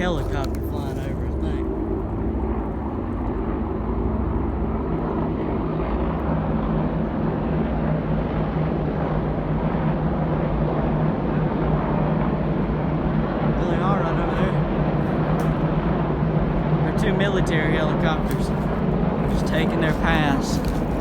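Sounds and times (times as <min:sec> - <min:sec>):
helicopter rotor drone: 0:00.0 - 0:21.0.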